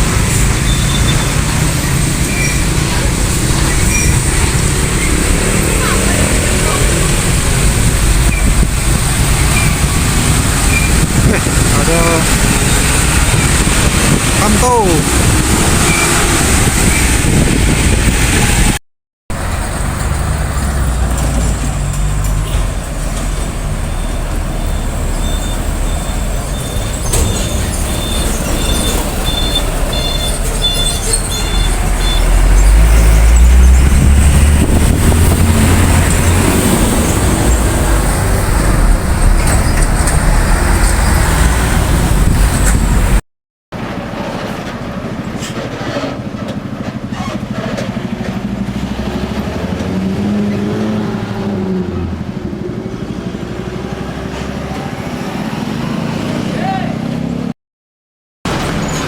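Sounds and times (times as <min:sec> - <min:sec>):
diesel truck engine rumble: 0:00.0 - 0:43.2, 0:43.8 - 0:56.5
road traffic: 0:00.0 - 0:57.6, 0:58.5 - 0:59.0.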